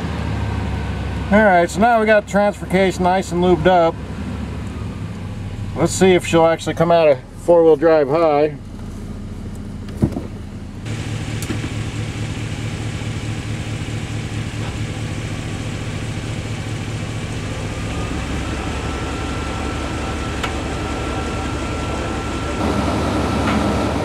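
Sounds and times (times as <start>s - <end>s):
truck drivetrain droning: 0.0s - 24.0s
thin whine: 2.7s - 24.0s.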